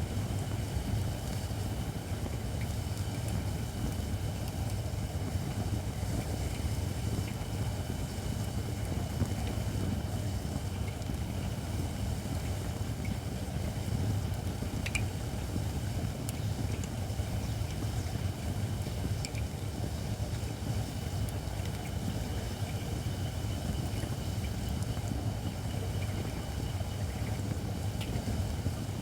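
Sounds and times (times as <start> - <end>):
campfire rumble: 0.0 - 29.0
fire crackles: 0.0 - 29.0.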